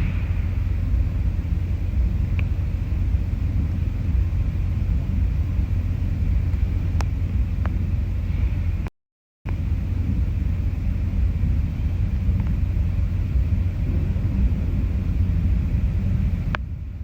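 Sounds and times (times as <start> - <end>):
deep rumble: 0.0 - 8.9, 9.5 - 17.0.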